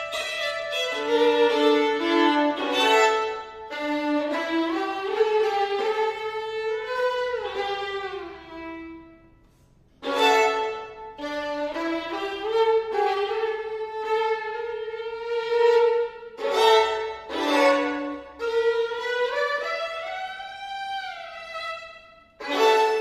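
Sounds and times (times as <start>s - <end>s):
two violins playing: 0.0s - 23.0s.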